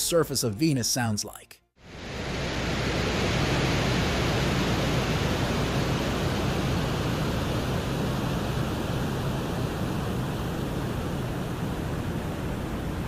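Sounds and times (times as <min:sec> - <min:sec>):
rushing noise with deep rumble: 0:01.9 - 0:13.0.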